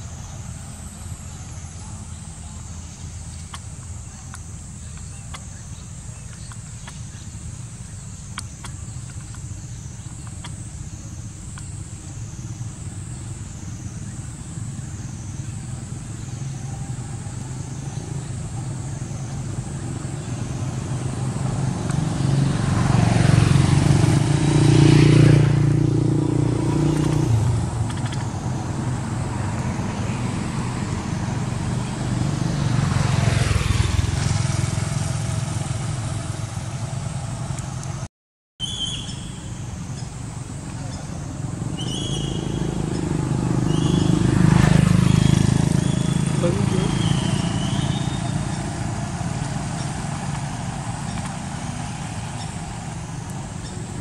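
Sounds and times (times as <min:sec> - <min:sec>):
vehicles passing on road: 0:00.0 - 0:54.0.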